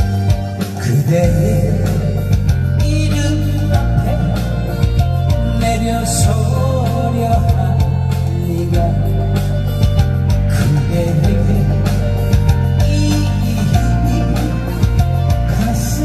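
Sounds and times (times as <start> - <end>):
backing music with guitar: 0.0 - 16.0.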